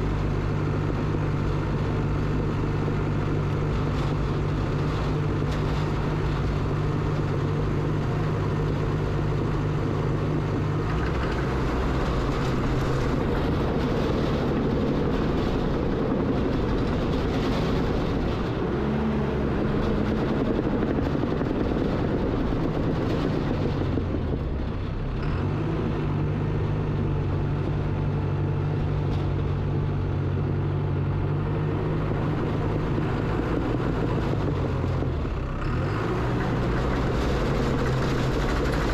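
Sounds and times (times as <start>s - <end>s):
earthmoving machine engine: 0.0s - 38.9s.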